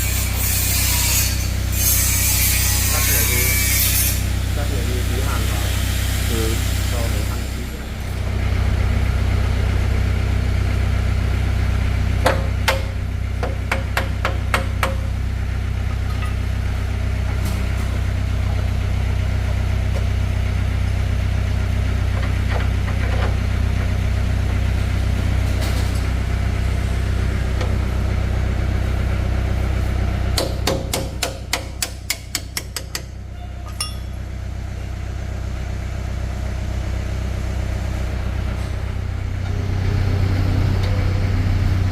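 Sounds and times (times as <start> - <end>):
low engine hum: 4.2 - 41.9.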